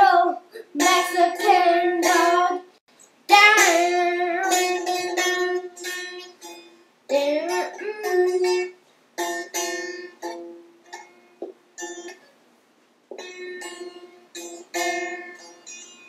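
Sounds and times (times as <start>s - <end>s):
ukulele strumming chords: 0.0s - 2.7s, 3.3s - 12.2s, 13.1s - 16.0s.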